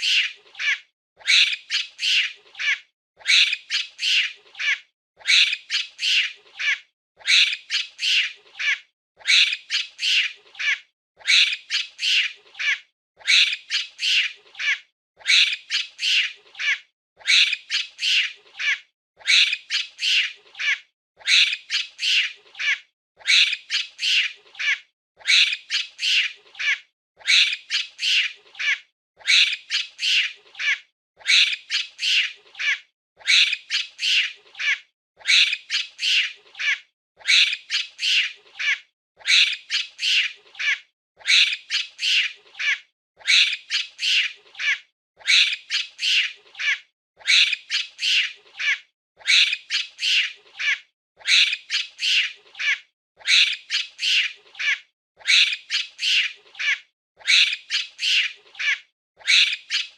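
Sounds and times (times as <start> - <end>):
high-pitched monkey calls: 0.0 - 59.9.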